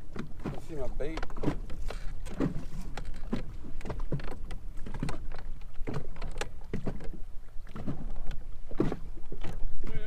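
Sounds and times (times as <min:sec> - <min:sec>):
waves slapping boat hull: 0:00.0 - 0:10.0.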